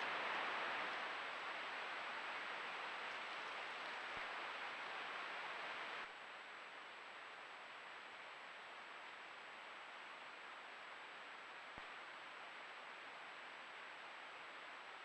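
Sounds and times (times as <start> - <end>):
faint high-pitched electronic whine: 0.0 - 15.0
steady outdoor hiss: 0.0 - 15.0.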